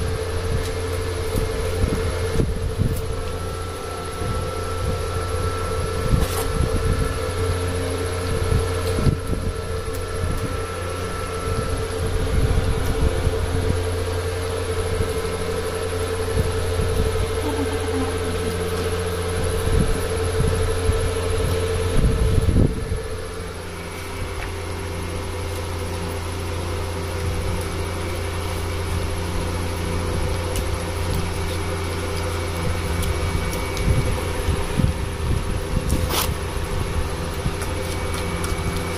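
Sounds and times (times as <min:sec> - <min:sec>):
faint high whine: 0:00.0 - 0:38.9
low mechanical hum: 0:00.0 - 0:38.9.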